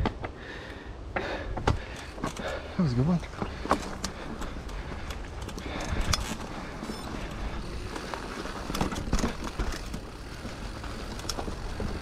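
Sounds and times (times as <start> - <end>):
tyres rumbling on dirt: 1.2 - 12.0
bike knocks and rattles: 1.5 - 12.0.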